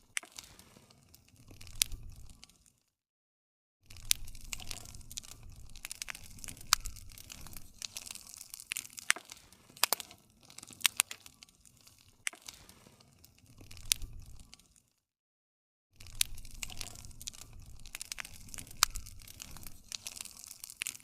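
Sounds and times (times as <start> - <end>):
fire pops and snaps: 0.0 - 2.8, 3.9 - 14.9, 16.0 - 21.0
wood fire crackling: 0.0 - 2.8, 3.9 - 14.9, 16.0 - 21.0.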